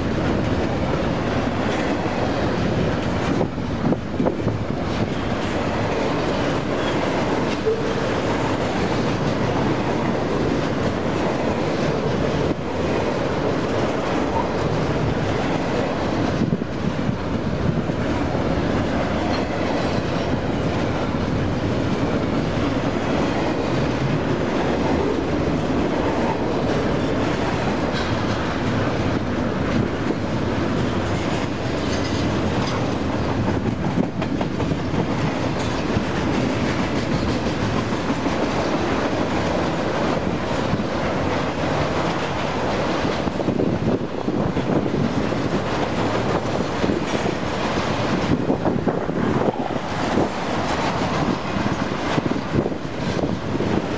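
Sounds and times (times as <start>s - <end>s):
freight train wheels clattering: 0.0s - 53.9s.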